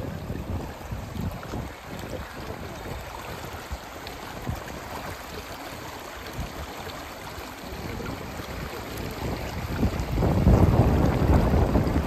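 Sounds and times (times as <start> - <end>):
river water rushing over stones: 0.0 - 12.0
wind buffeting microphone: 0.0 - 12.0.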